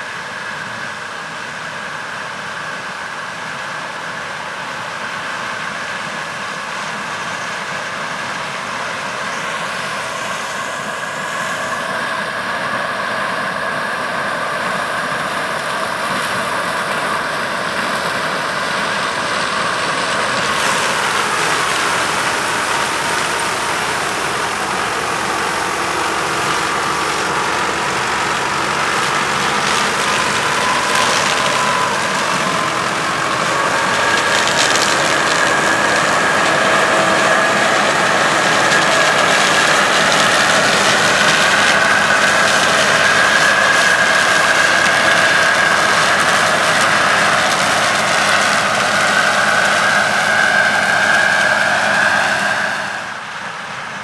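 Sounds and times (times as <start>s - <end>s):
engines running: 0.0s - 54.0s
threshing machinery noise: 0.0s - 54.0s.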